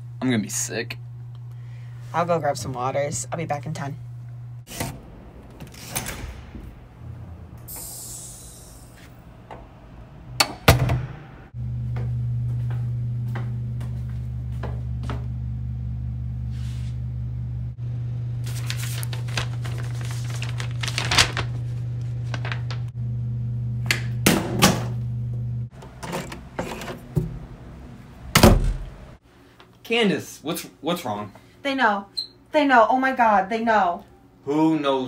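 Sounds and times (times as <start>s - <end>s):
steady low hum: 0.0s - 29.6s.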